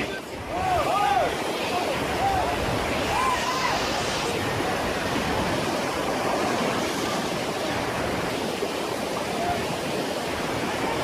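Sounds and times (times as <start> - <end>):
fast-moving water rushing: 0.0 - 11.0.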